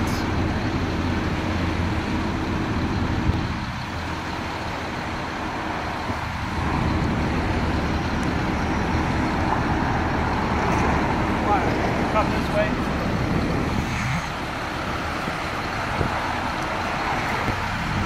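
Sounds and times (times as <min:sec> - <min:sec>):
city traffic noise: 0:00.0 - 0:18.0
crane diesel engine running: 0:00.0 - 0:18.0.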